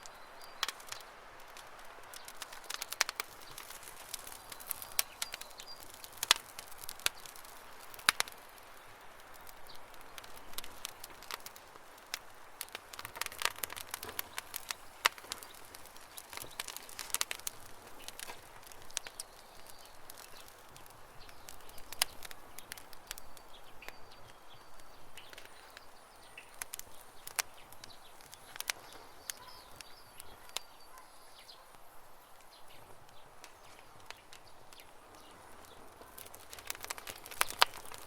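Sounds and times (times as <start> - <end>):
birds chirping faintly: 0.0 - 38.0
campfire crackling and popping: 0.0 - 38.0.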